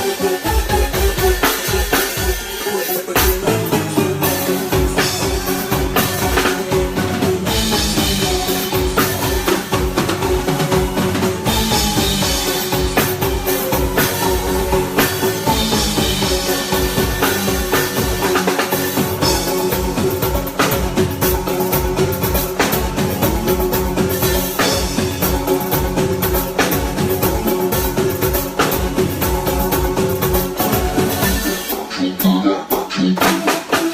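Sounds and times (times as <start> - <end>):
drum kit beat with rimshots: 0.0 - 33.9
live band playing: 0.0 - 33.9.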